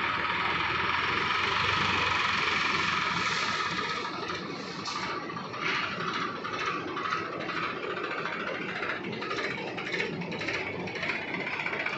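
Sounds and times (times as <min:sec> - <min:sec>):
diesel engines running: 0:00.0 - 0:11.9.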